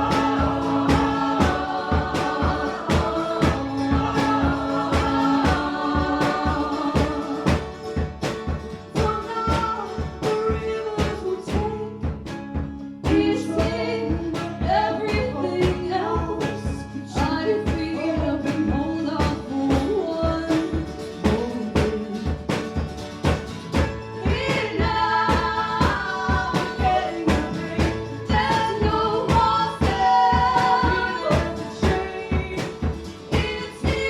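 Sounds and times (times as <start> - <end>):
women singing in harmony: 0.0 - 8.2, 8.9 - 12.0, 13.1 - 22.3, 24.2 - 34.0
strummed acoustic guitar: 0.0 - 34.0.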